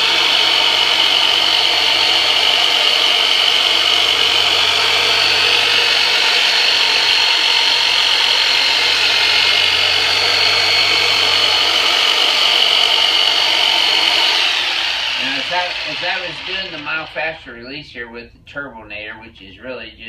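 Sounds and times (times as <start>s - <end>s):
jigsaw buzzing: 0.0s - 17.3s.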